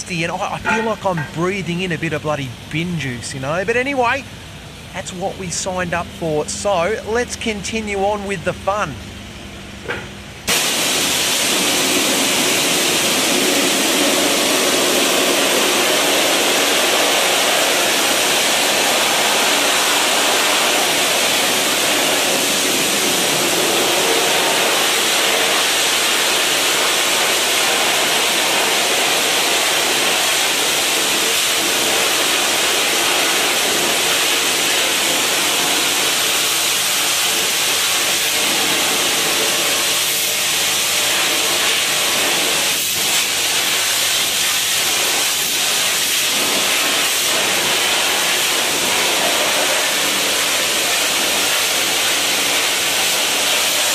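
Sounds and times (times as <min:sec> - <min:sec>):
pressure washer spray hissing: 0:10.5 - 0:53.9.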